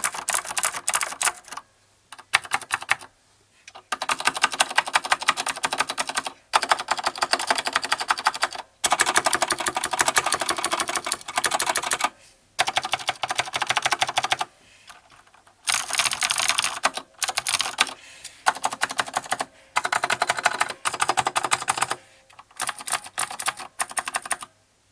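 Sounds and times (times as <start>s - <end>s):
clicky keyboard typing: 0.0s - 3.1s, 3.7s - 14.5s, 15.7s - 24.5s.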